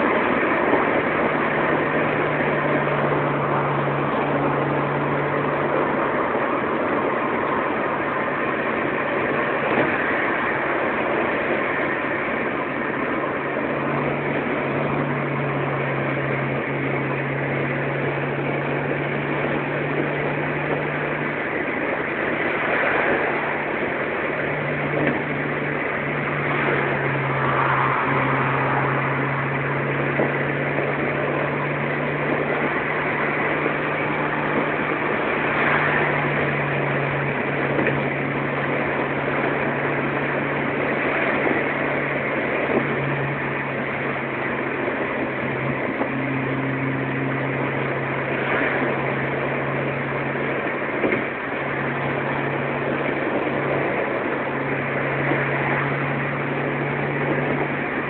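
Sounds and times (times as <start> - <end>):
car engine droning: 0.0 - 58.0
tyre and wind noise: 0.0 - 58.0.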